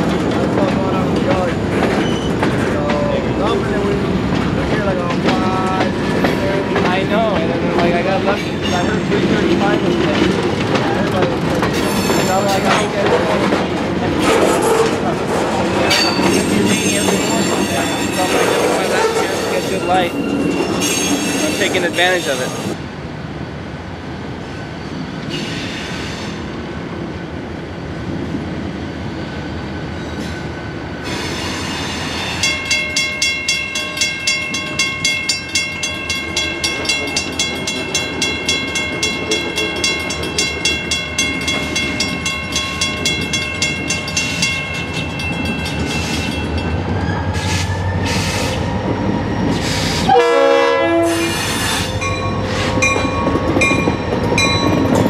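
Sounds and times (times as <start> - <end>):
freight train rumbling: 0.0 - 55.0.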